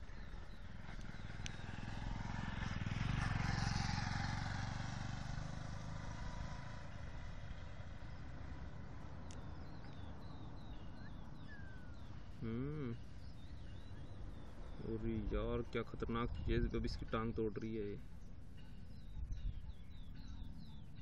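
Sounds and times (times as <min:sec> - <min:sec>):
motor vehicle passing by: 0:00.0 - 0:21.0.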